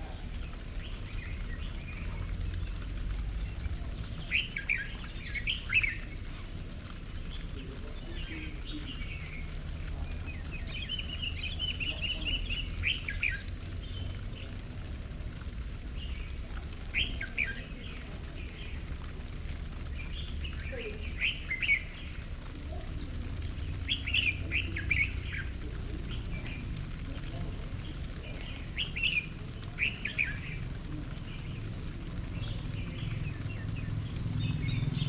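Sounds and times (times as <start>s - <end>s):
birds chirping: 0.0s - 35.0s
low steady rumble: 0.0s - 35.0s.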